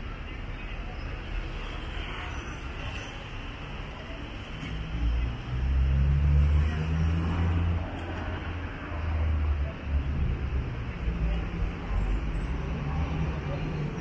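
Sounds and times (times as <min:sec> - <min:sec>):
traffic hum: 0:00.0 - 0:14.0.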